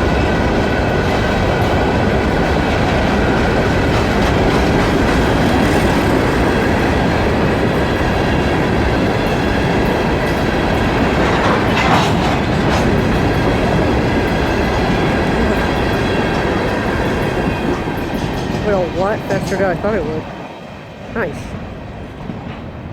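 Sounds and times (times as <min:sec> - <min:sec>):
freight train wheels rumbling: 0:00.0 - 0:22.9
wheels clacking over rail joints: 0:00.1 - 0:20.0.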